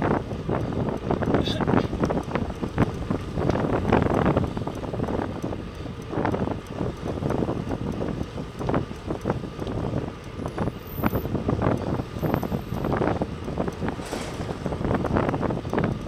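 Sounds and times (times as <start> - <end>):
traffic: 0.0 - 16.0
wind buffeting microphone: 0.0 - 16.0.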